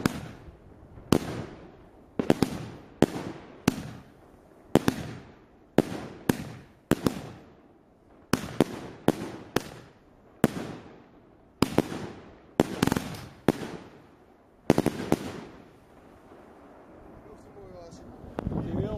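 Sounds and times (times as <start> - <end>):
firework bangs: 0.0 - 18.8.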